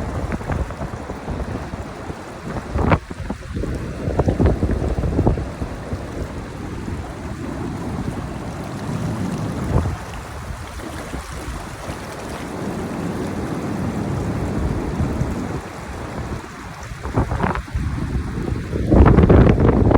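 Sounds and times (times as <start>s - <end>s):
ocean surf washing onto beach: 0.0s - 19.9s
wind buffeting microphone: 0.0s - 19.9s.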